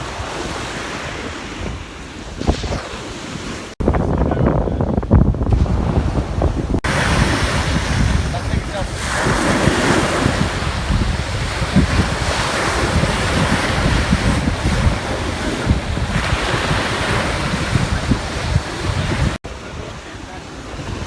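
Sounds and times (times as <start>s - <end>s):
ocean surf washing in: 0.0s - 21.0s
wind buffeting the microphone: 0.0s - 21.0s.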